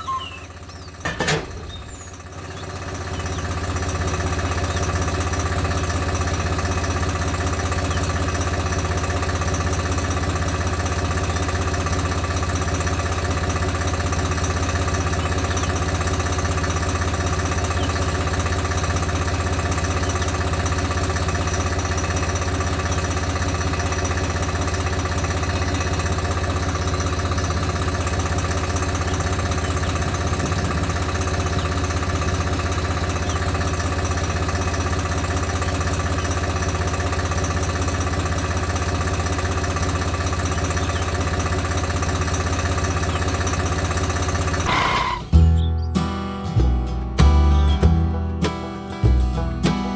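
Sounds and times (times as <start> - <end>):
small motor humming: 0.0 - 8.4, 10.0 - 44.7.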